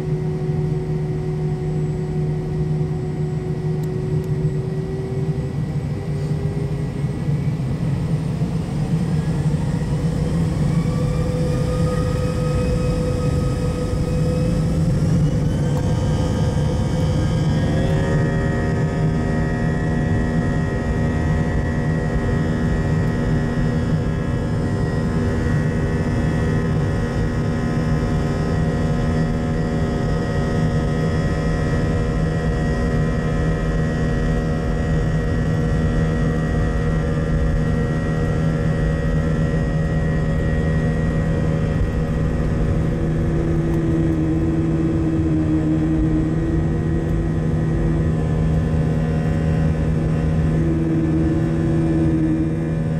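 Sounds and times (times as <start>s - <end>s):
hum: 0.0s - 52.9s
jet engine rumble in cabin: 0.0s - 52.9s.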